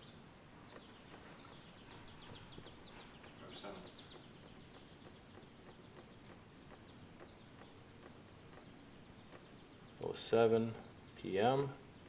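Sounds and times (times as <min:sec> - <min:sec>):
short high beeps: 0:00.8 - 0:09.8, 0:10.4 - 0:11.2.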